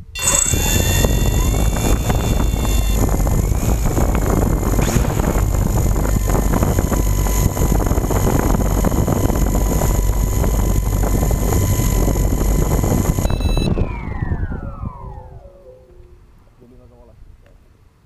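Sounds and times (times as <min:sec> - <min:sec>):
drone motor whine: 0:00.0 - 0:16.3
propellers humming: 0:00.0 - 0:16.4
prop wash rumbling: 0:00.8 - 0:16.8.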